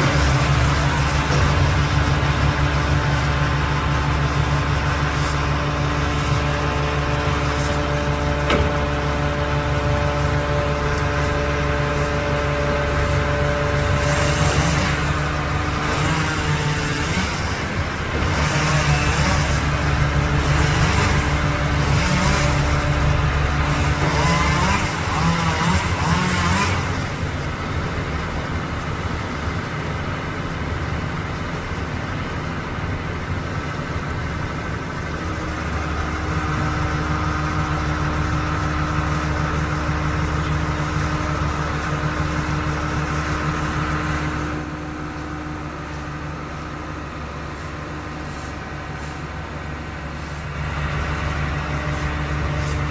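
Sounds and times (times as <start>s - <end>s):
motor engine running: 0.0s - 52.9s.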